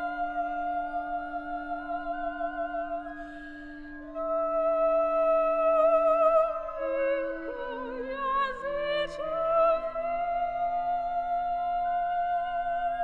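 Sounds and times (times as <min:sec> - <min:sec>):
soprano voice singing: 0:00.0 - 0:03.3, 0:04.0 - 0:13.0
clarinet long notes: 0:00.0 - 0:13.0.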